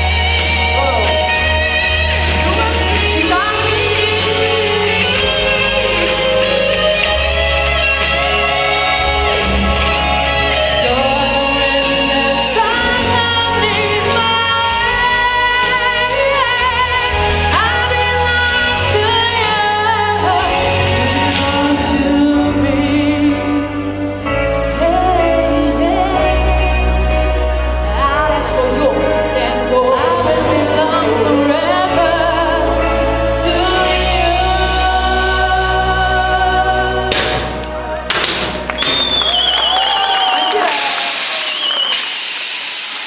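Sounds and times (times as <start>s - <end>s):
song with singing voice: 0.0s - 42.2s.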